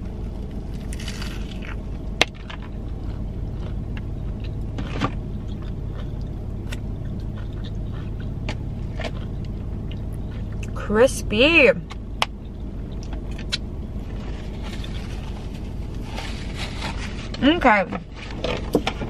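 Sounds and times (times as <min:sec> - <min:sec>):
crunching and chewing food: 0:00.0 - 0:10.8, 0:11.8 - 0:17.4
car cabin low hum: 0:00.0 - 0:19.0.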